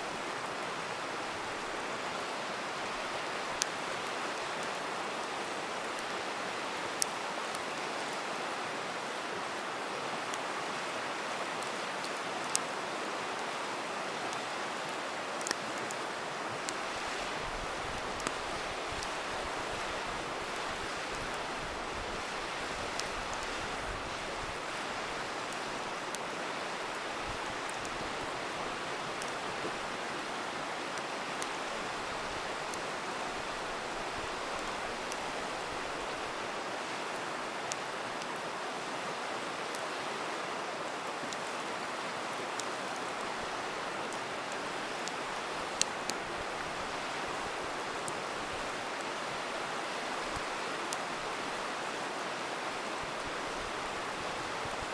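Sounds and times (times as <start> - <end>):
river rushing: 0.0 - 54.9
campfire popping and crackling: 0.4 - 8.4, 11.4 - 38.3, 40.6 - 51.5.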